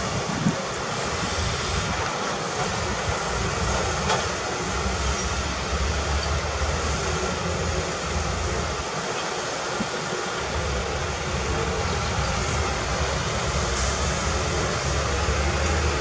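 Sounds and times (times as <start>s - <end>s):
heavy machinery engine rumble: 0.0s - 16.0s.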